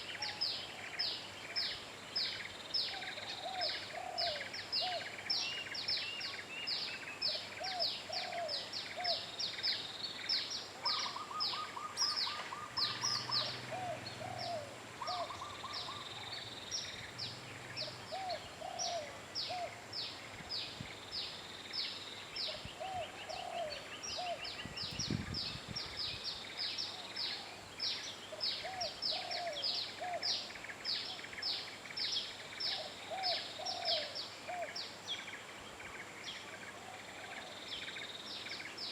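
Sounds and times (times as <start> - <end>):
lower bird call: 0.0 - 35.3.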